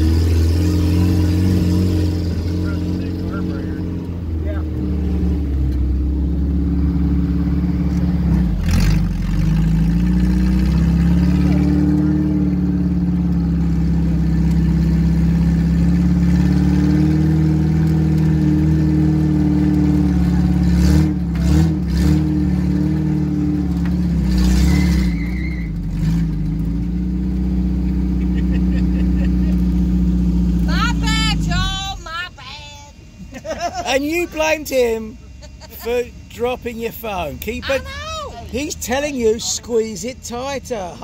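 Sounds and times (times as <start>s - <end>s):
off-road vehicle engine running: 0.0s - 41.0s.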